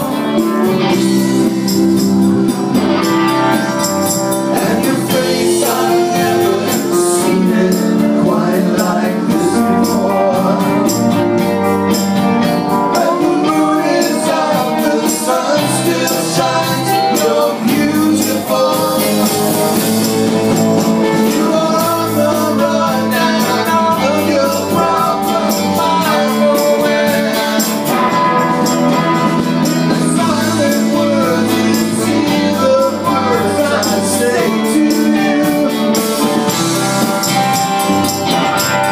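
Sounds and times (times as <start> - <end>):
person singing: 0.0 - 11.5, 12.7 - 20.3, 21.0 - 37.2
guitar: 0.0 - 38.9
rock band playing: 0.0 - 38.9.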